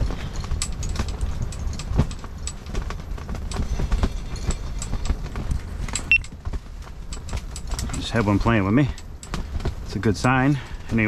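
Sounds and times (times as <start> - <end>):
gusty wind rumble: 0.0 - 11.0.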